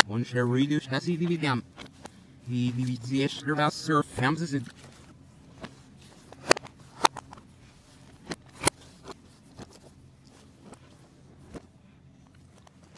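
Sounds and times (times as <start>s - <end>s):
quiet rustling: 0.5s - 12.9s.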